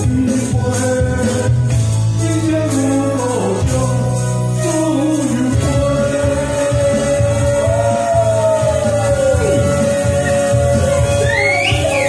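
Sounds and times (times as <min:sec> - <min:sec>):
man singing into a microphone: 0:00.0 - 0:11.2
amplified backing track: 0:00.0 - 0:12.0.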